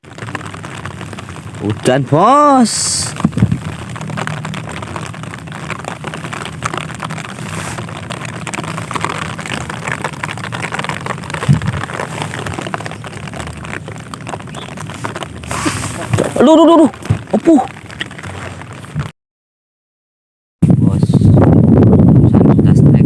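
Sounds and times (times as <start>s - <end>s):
constant low rumble: 0.0s - 19.1s, 20.6s - 23.0s
rain pattering: 0.0s - 19.1s.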